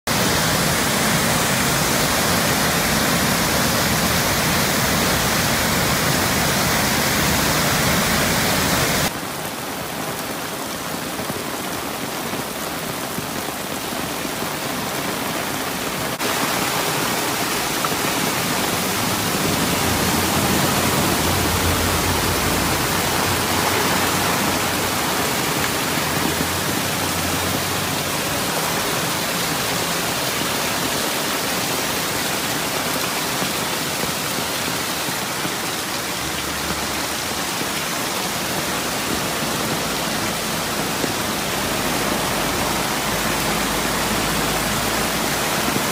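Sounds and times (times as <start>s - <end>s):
floodwater rushing: 0.0s - 45.9s
heavy rain on flooded street: 0.0s - 45.9s.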